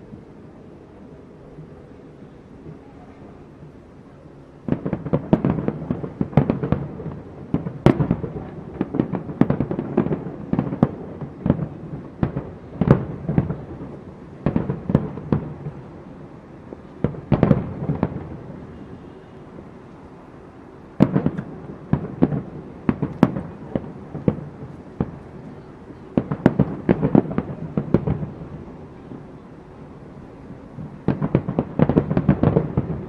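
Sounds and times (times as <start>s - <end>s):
fireworks exploding: 4.6s - 19.9s, 21.0s - 33.0s.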